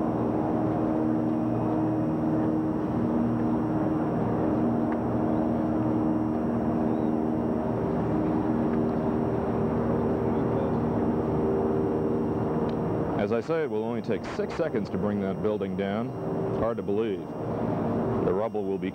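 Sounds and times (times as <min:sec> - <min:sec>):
steady mechanical drone: 0:00.0 - 0:18.9.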